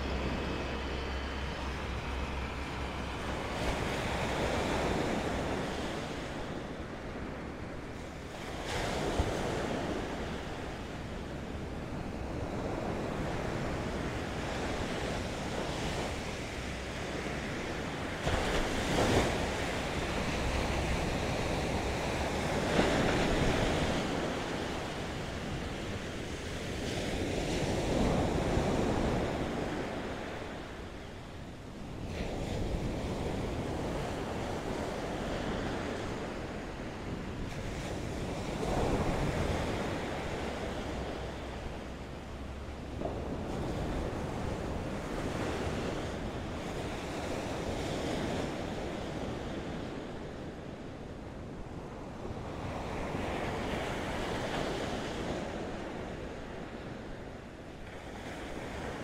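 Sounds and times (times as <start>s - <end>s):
ocean surf breaking: 0.0s - 50.5s
wind rumbling on microphone: 0.0s - 59.0s.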